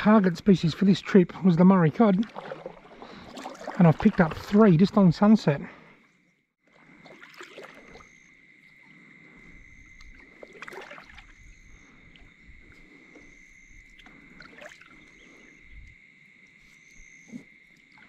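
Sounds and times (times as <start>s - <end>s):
water lapping along kayak hull: 0.0s - 18.0s
water swishes: 0.0s - 18.0s.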